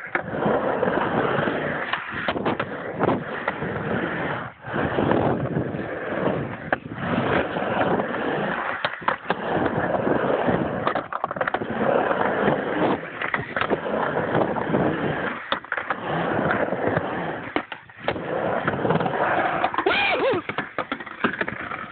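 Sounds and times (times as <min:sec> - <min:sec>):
skateboard clacks: 0:00.0 - 0:21.9
skateboard wheels rolling on ramp: 0:00.0 - 0:21.9.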